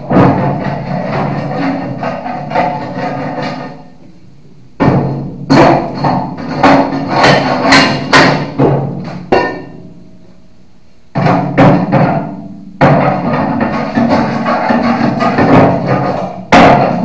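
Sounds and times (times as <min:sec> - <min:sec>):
hammer striking steel bucket: 0:00.0 - 0:03.9, 0:04.8 - 0:10.0, 0:11.1 - 0:17.0.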